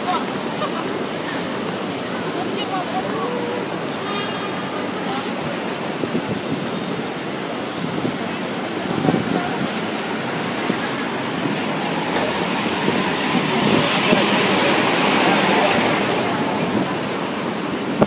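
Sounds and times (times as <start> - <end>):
bus passing: 0.0 - 18.0
street traffic: 0.0 - 18.0.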